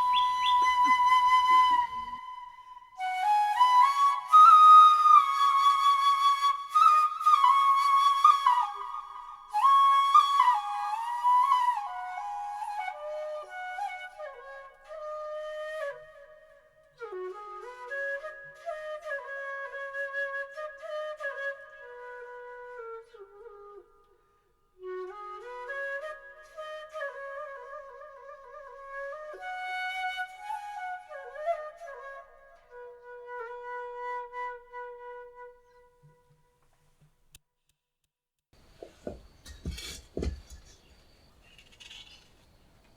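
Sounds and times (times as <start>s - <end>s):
solo flute melody: 0.0s - 36.5s.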